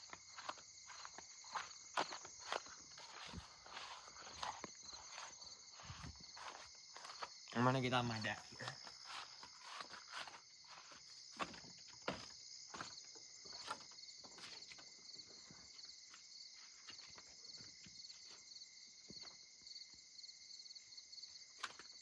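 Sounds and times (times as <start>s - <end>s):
footsteps on wooden deck: 0.0s - 19.4s
crickets chirping: 0.0s - 22.0s.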